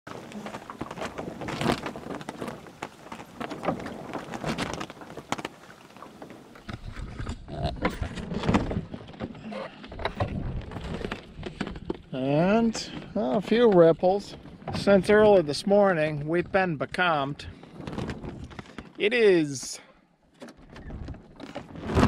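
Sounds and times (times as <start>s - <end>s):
water lapping against hull: 0.1s - 19.0s.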